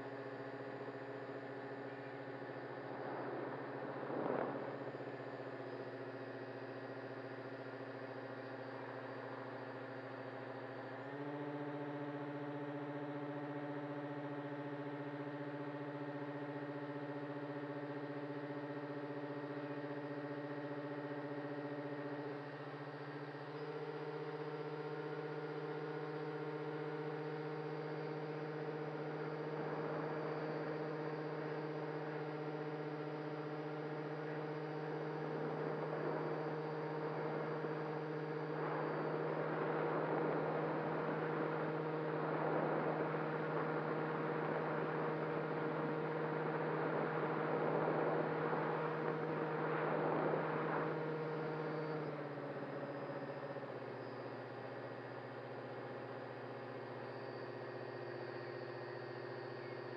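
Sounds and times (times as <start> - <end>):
electric motors and propellers humming: 0.0 - 59.9.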